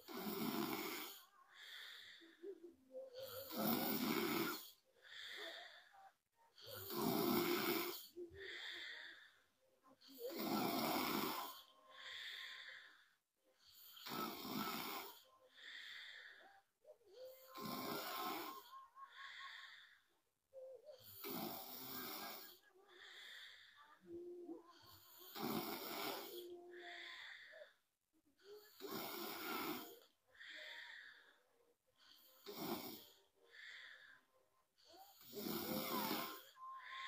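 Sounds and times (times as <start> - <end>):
soft breath: 0.0 - 37.0
woman snoring: 0.0 - 37.0.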